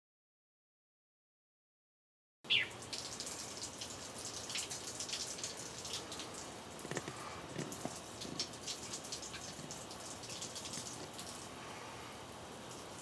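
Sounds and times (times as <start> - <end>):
water dripping and pattering: 2.5 - 13.0.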